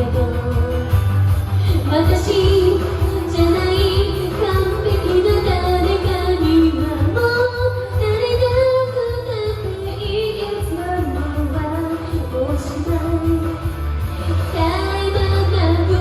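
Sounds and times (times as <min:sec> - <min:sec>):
karaoke backing track: 0:00.0 - 0:16.0
person singing pop song: 0:00.0 - 0:16.0.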